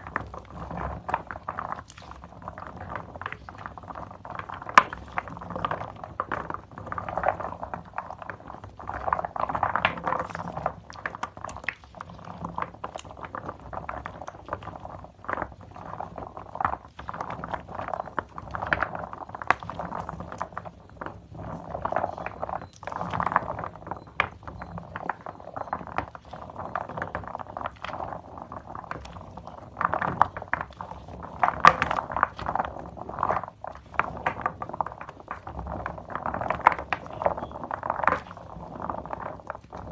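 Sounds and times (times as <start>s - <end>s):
foam bubbles crackling and popping: 0.0s - 39.9s
wet soap squelching: 0.0s - 39.9s.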